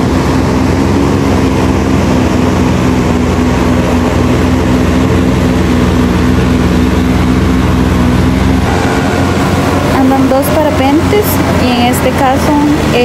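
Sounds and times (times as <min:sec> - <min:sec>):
paramotor engine droning: 0:00.0 - 0:13.0.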